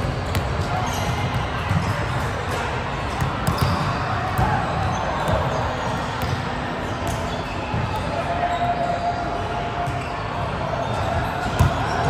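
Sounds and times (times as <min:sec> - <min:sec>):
sports hall din: 0:00.0 - 0:12.0
volleyballs hit and bouncing: 0:00.0 - 0:12.0.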